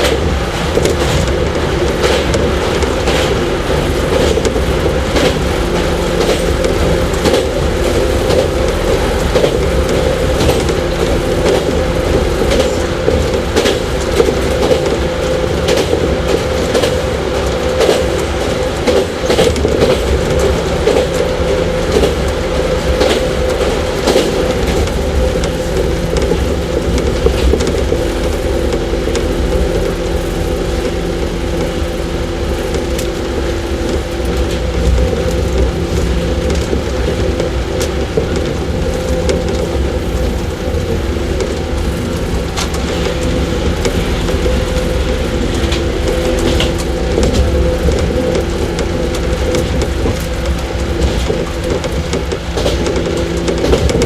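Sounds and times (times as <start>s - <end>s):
electric train motor hum: 0.0s - 54.0s
low rumble: 0.0s - 54.0s
wheels clacking over rail joints: 0.0s - 54.0s.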